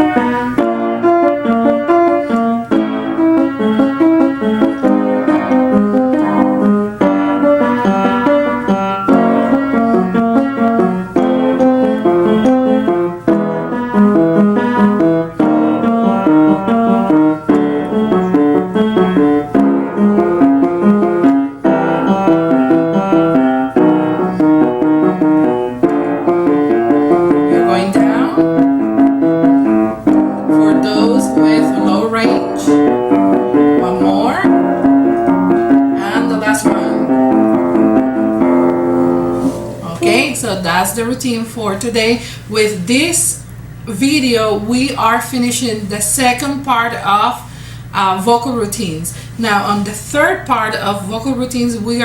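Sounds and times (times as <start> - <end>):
piano warm-up pattern: 0.0 - 52.0.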